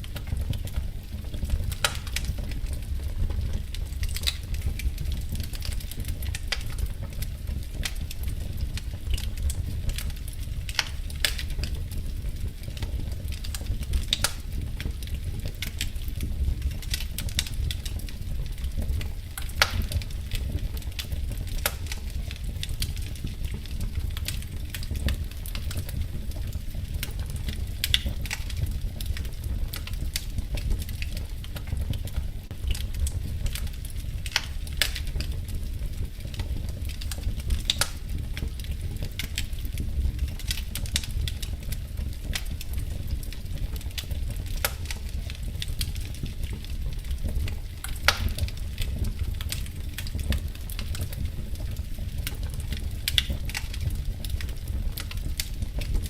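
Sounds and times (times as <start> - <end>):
low rumble of flames: 0.0 - 56.0
wood fire snaps and pops: 0.0 - 56.0.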